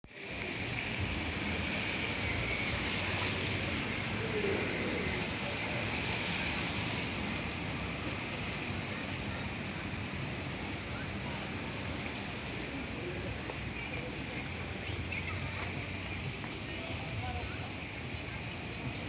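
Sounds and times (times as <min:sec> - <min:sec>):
rain hissing on street: 0:00.0 - 0:19.0.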